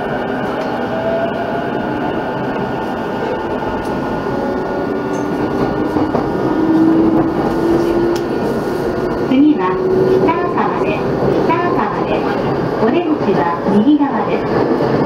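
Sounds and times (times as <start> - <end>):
train wheels rolling noise: 0.0 - 15.0.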